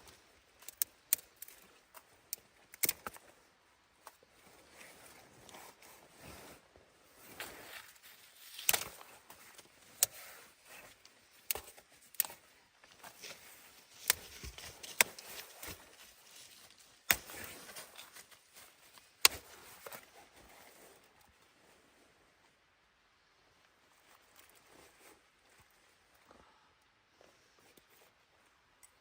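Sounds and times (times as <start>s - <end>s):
faint rustling and handling noise: 0.0s - 29.0s.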